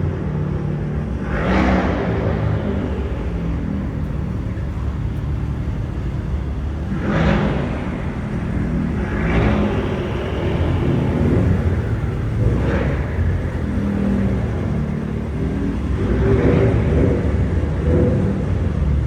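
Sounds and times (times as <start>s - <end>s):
car engines rumbling: 0.0s - 19.0s
cars revving and passing: 0.0s - 19.0s.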